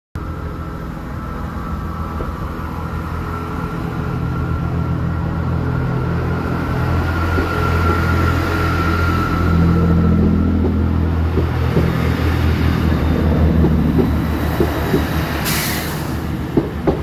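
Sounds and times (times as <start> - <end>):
train engine hum with whine: 0.2 - 17.0.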